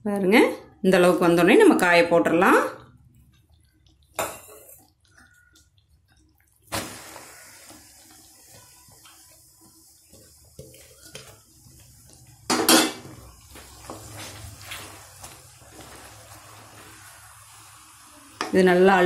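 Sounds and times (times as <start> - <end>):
syrup popping: 1.8 - 18.6
syrup hissing and sizzling: 2.2 - 19.0.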